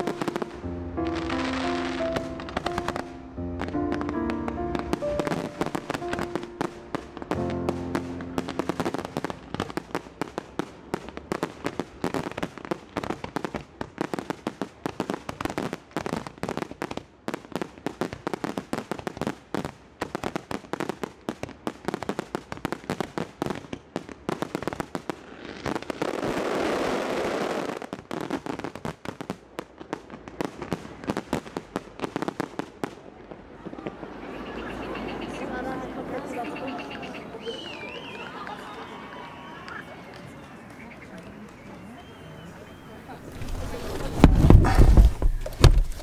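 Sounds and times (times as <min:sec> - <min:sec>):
fireworks bangs and crackles: 0:00.0 - 0:46.0
fireworks rushing: 0:00.0 - 0:46.0.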